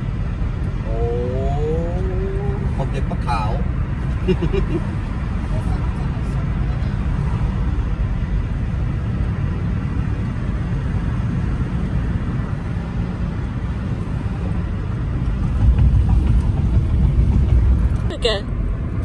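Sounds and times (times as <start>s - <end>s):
car interior road and engine rumble: 0.0s - 19.0s.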